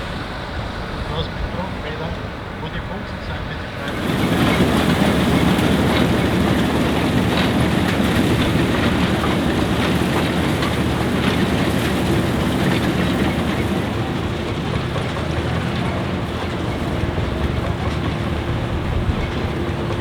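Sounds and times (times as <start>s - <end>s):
combine and tractor mechanical din: 3.0s - 20.0s.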